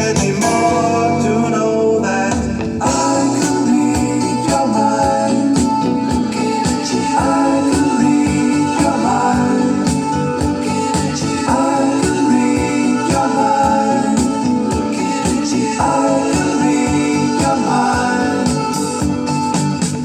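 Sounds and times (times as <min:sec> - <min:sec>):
song with singing and beat: 0:00.0 - 0:20.0.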